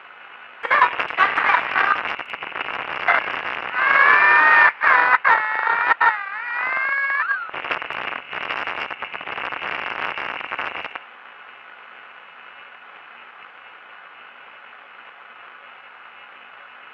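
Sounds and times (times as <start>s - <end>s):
crackling radio static: 0.0s - 16.9s
faint hum: 0.0s - 16.9s
steady low hiss: 0.0s - 16.9s.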